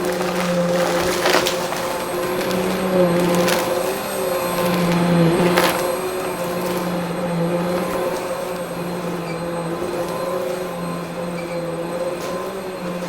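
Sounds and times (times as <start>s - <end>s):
debris crackle: 0.0s - 13.0s
vacuum cleaner running: 0.0s - 13.0s.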